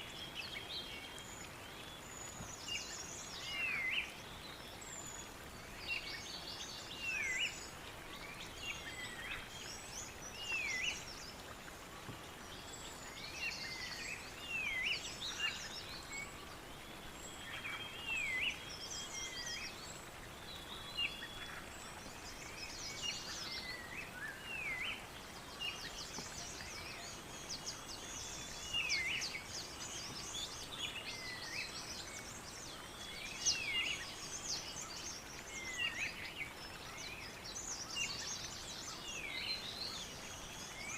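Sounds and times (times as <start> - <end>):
birds calling and singing: 0.0 - 40.9
faint steady hiss: 0.0 - 40.9.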